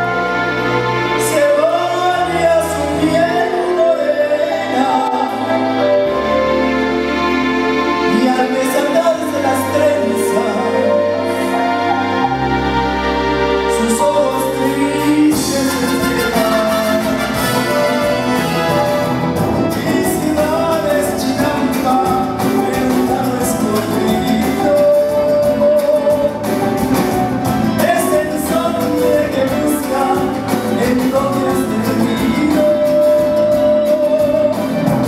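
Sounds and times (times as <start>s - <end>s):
man singing: 0.0s - 6.1s, 8.0s - 12.0s, 13.6s - 35.0s
mariachi band playing: 0.0s - 35.0s
violins: 0.0s - 35.0s.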